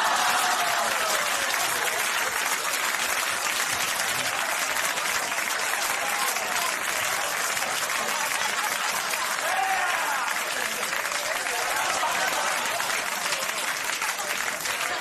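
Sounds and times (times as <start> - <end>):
studio audience applauding: 0.0 - 15.0.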